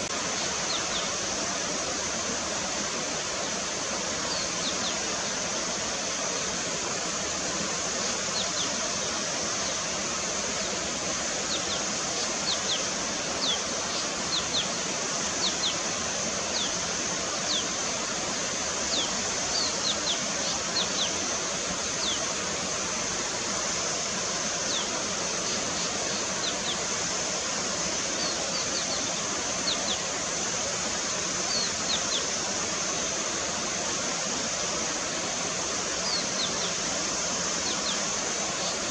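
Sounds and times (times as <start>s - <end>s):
songbirds calling: 0.0s - 38.9s
water flowing: 0.0s - 38.9s.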